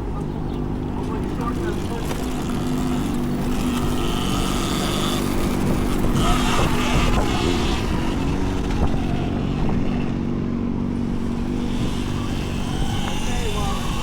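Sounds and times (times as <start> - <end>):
wind and road noise: 0.0 - 14.0
electric motor hum: 0.6 - 14.0.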